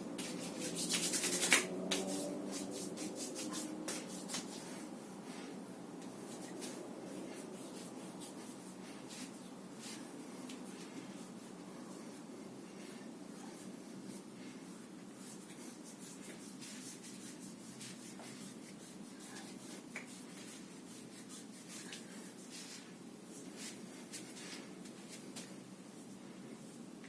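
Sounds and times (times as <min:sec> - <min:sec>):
scratchy rubbing and brushing: 0:00.2 - 0:26.2.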